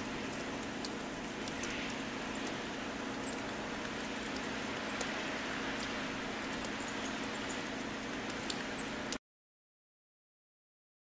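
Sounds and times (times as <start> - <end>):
low steady hum: 0.0 - 9.2
outdoor hiss: 0.0 - 9.2
small birds chirping: 0.0 - 9.2.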